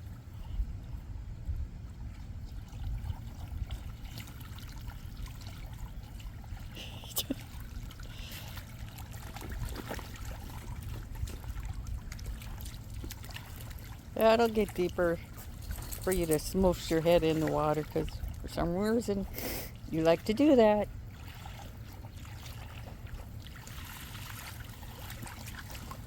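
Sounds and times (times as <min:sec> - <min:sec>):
hose water trickling into pool: 0:00.0 - 0:26.0
small splashes: 0:01.9 - 0:26.0.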